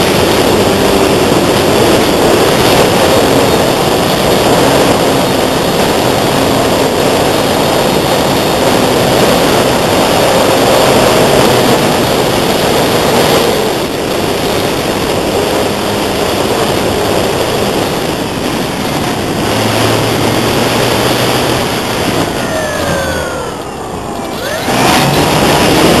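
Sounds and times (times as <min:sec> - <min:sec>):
model aeroplane motor whine: 0:00.0 - 0:26.0
wind noise on microphone: 0:00.0 - 0:26.0.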